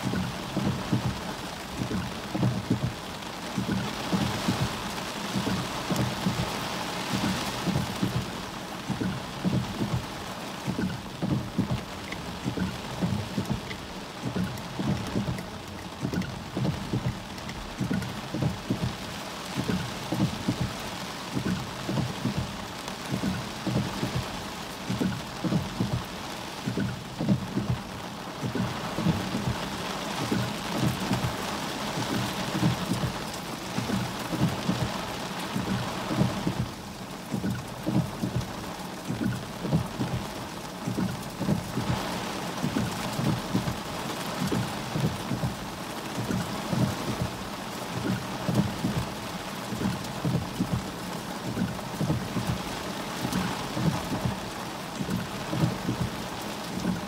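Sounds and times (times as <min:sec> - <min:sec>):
heavy rain on car roof: 0:00.0 - 0:57.0
irregular low thuds: 0:00.0 - 0:57.0.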